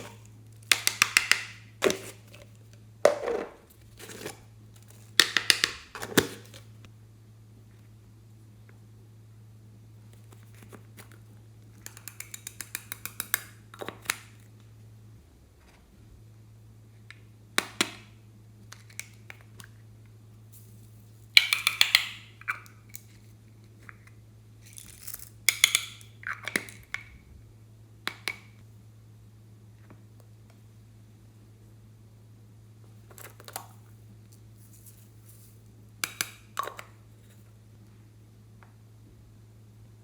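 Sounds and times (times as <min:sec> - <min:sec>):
steady low hum: 0:00.0 - 0:21.6, 0:22.2 - 0:40.0.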